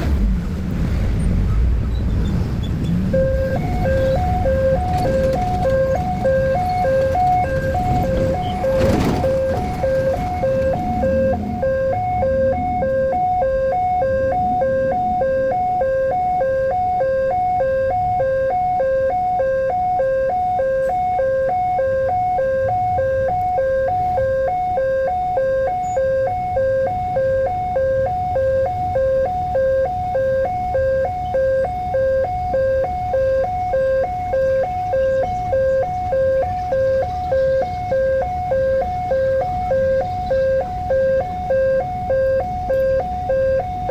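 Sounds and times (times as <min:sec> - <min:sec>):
level crossing two-tone alarm: 0:03.1 - 0:43.9.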